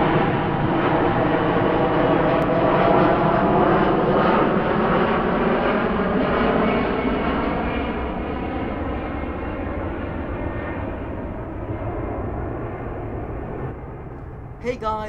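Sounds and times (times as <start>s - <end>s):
jet airliner flying overhead: 0.0s - 15.0s.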